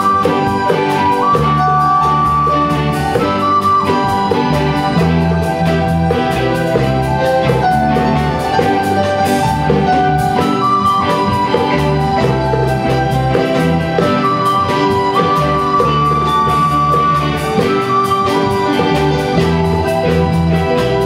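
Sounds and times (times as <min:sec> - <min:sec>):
traditional orchestra playing: 0:00.0 - 0:21.0.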